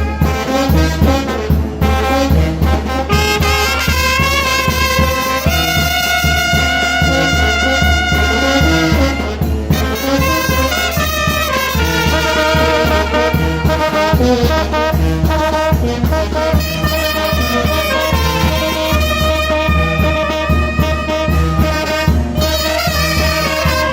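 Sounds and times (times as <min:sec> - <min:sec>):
trumpets and trombones: 0:00.0 - 0:23.9
steady low beat: 0:01.2 - 0:23.9.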